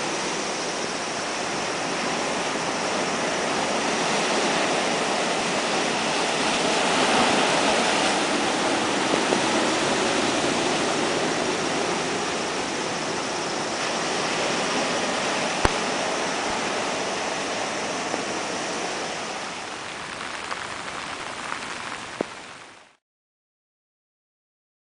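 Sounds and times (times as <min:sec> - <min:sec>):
rain: 0:00.0 - 0:23.0
sea waves: 0:00.0 - 0:23.0.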